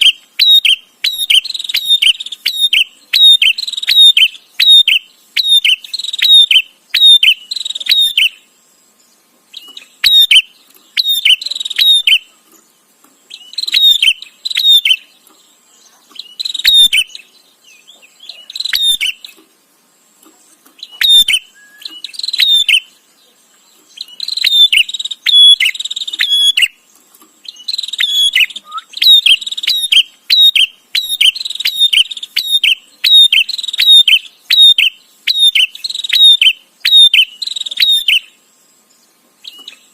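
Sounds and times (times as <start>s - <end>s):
bird calling in sharp chips: 0.0s - 8.5s, 9.5s - 19.5s, 20.5s - 23.1s, 23.7s - 38.4s.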